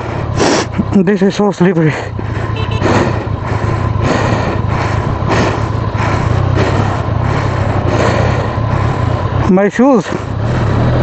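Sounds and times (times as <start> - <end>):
motorbike engine hum: 0.0 - 11.0
road and wind noise: 0.0 - 11.0.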